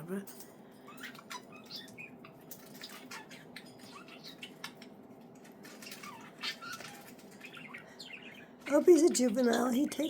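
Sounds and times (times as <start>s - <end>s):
budgerigars chirping softly: 0.9s - 5.0s, 5.6s - 10.0s.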